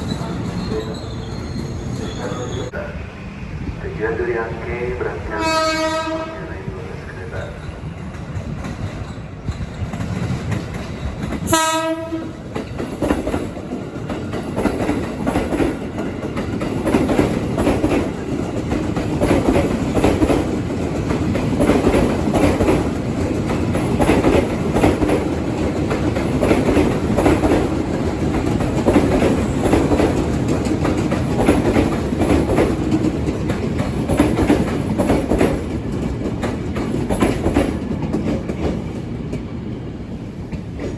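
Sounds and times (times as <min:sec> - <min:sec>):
train rumble: 0:00.0 - 0:40.9
train wheels clattering: 0:07.5 - 0:40.9.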